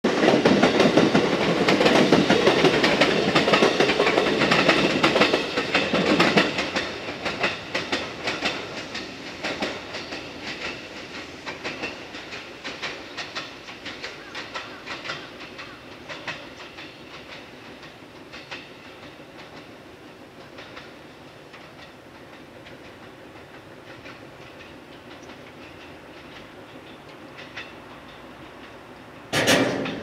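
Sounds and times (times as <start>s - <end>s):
train wheels clattering over rail joints: 0.1s - 30.0s.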